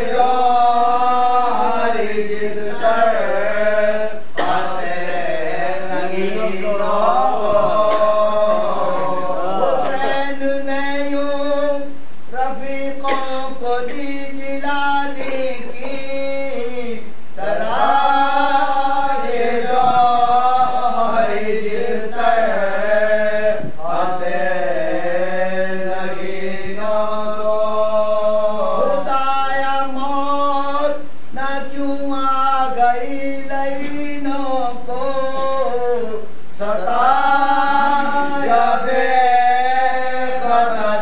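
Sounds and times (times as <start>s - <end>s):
man reciting long wavering notes: 0.0s - 41.0s
men chanting: 0.0s - 41.0s.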